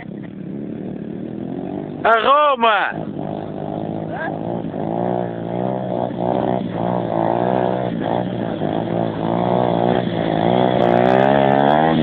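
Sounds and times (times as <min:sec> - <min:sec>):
pit bike engine: 0:00.0 - 0:12.0.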